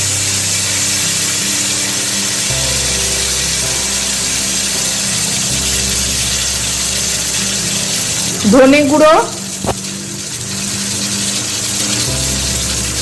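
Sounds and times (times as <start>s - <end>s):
background music: 0.0s - 13.0s
paste sizzling in oil: 0.0s - 13.0s.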